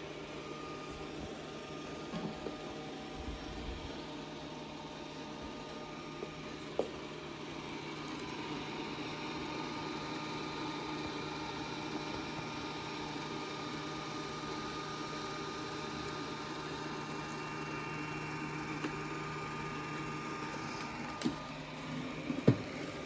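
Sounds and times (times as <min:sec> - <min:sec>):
robot vacuum motor hum: 0:00.0 - 0:23.0.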